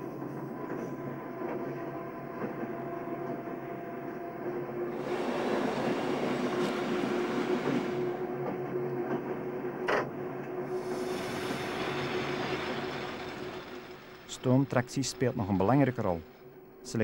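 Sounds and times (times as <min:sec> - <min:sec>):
train rolling on track: 0:00.0 - 0:17.0.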